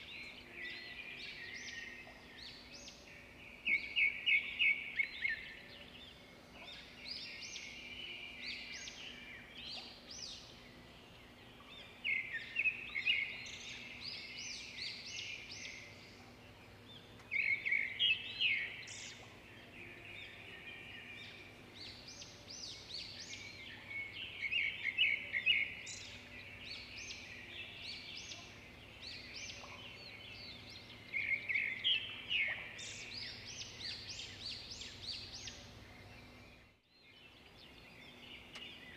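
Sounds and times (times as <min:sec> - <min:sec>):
quieter bird chirping: 0:00.0 - 0:38.9.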